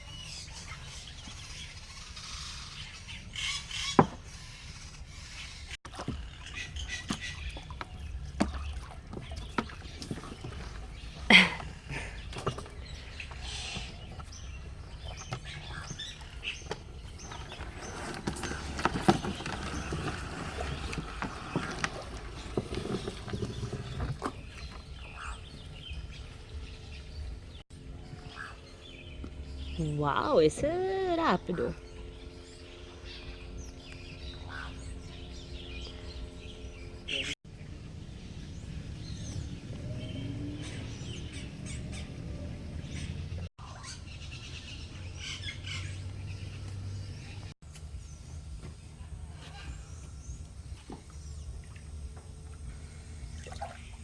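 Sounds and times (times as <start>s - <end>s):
birds chirping and whistling: 0.0s - 51.7s
steady low hum: 4.4s - 40.0s, 41.6s - 54.0s.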